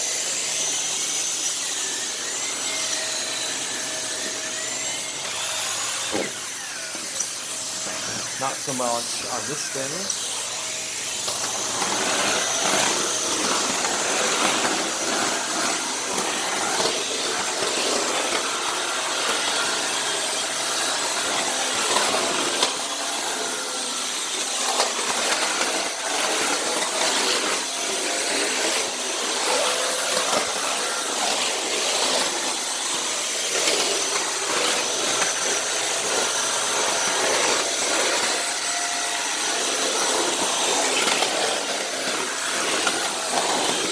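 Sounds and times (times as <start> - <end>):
vacuum cleaner motor whine: 0.0 - 43.9
vacuum floor head rubbing strokes: 0.0 - 43.9.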